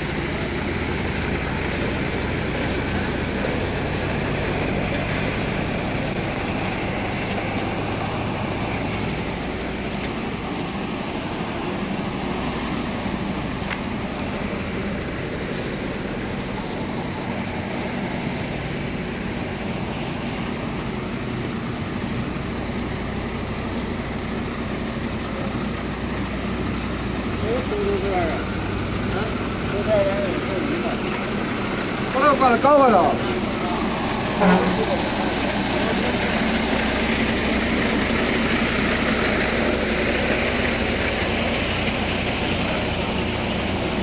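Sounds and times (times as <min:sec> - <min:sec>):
truck diesel engine droning: 0:00.0 - 0:44.0.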